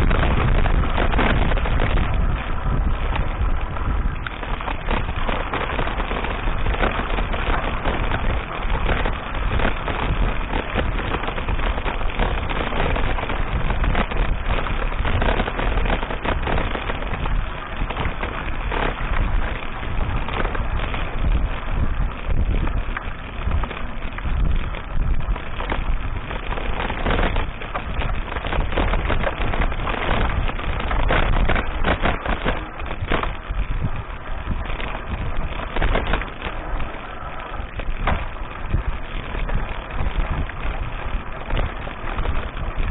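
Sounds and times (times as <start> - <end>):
bike knocks and rattles: 0.0 - 42.9
bike riding rushing noise: 0.0 - 42.9.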